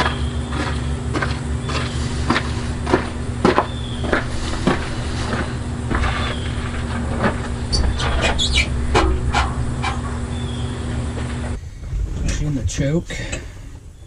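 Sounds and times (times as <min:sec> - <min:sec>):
truck engine running: 0:00.0 - 0:13.9.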